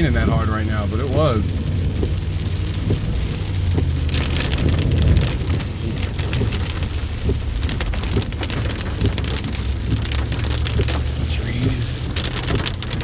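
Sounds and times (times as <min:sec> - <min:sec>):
rain pattering on car: 0:00.0 - 0:13.0
road and engine rumble: 0:00.0 - 0:13.0.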